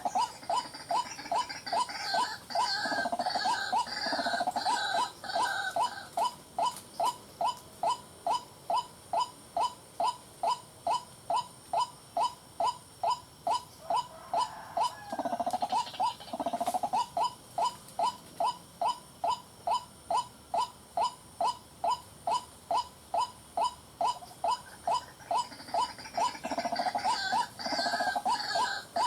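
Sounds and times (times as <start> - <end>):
rough croaking chatter: 0.0 - 29.0.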